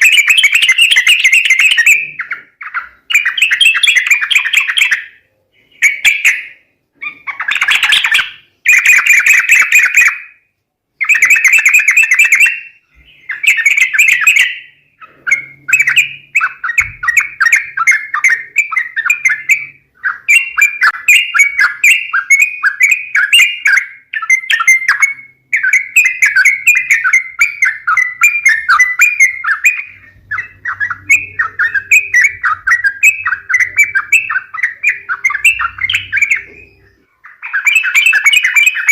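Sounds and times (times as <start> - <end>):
bulbuls chattering calls: 0.0 - 5.1, 5.7 - 10.2, 11.0 - 38.9.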